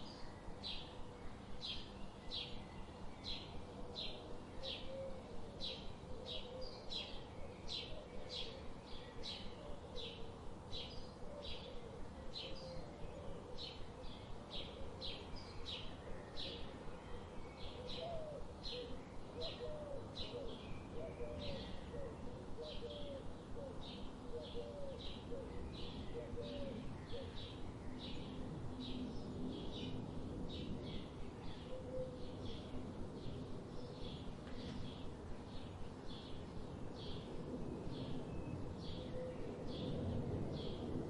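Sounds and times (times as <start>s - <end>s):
lower soft bird calls: 0.0s - 41.0s.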